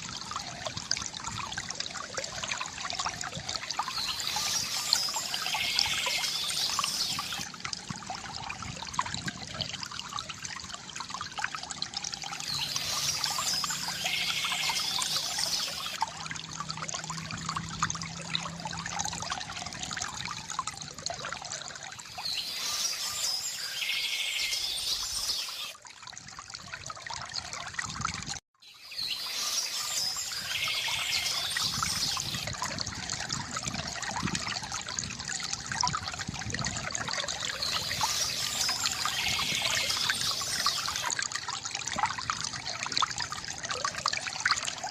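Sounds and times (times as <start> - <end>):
fountain water trickling and splashing: 0.0 - 44.9.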